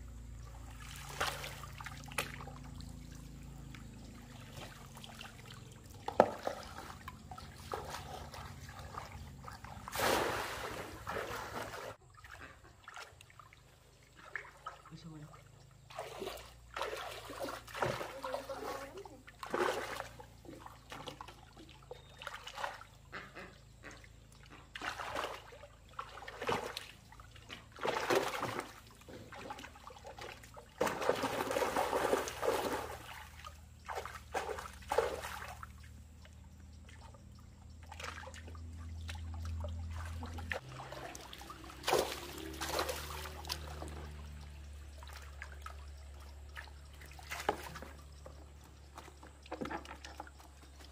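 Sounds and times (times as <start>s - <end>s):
water splashing and trickling: 0.0s - 50.9s.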